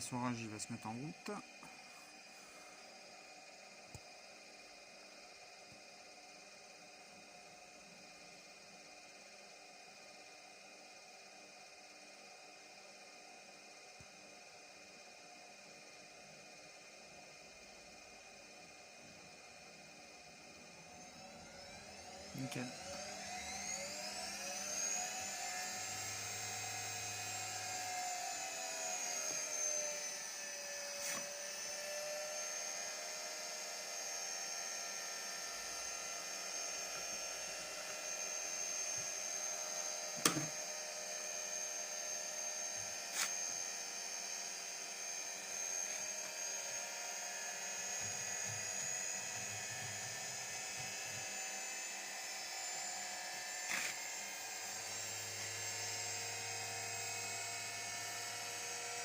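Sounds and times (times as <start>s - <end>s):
washing machine motor whining: 0.0s - 59.0s.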